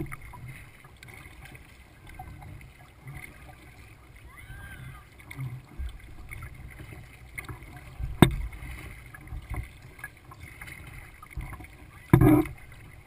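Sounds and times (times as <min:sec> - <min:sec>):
low rumble on microphone: 0:00.0 - 0:13.0
water lapping against kayak hull: 0:00.0 - 0:13.0.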